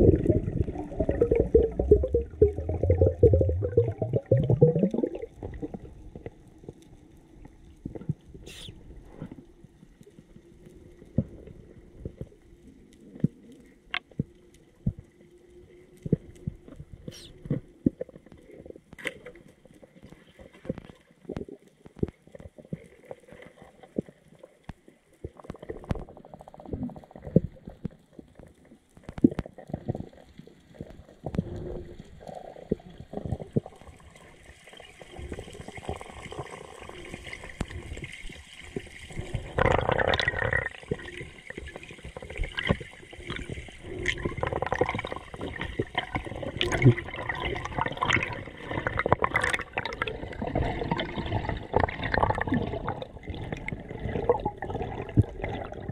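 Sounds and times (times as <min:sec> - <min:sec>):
underwater knocks and clicks: 0:00.0 - 0:08.4, 0:11.0 - 0:15.2, 0:15.9 - 0:34.3, 0:35.1 - 0:55.9
underwater gurgling and sloshing: 0:00.0 - 0:55.9.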